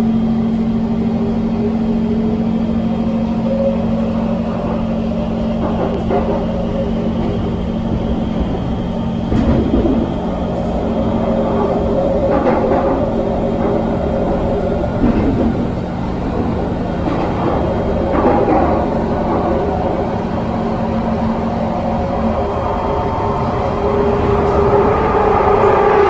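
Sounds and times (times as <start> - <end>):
train electrical hum: 0.0 - 26.0
train rolling rumble: 0.0 - 26.0.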